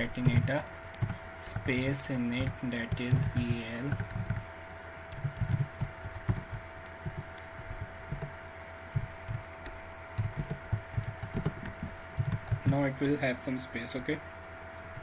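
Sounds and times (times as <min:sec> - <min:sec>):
keyboard typing: 0:00.0 - 0:08.3, 0:08.9 - 0:12.9
steady electrical hum: 0:00.0 - 0:15.0.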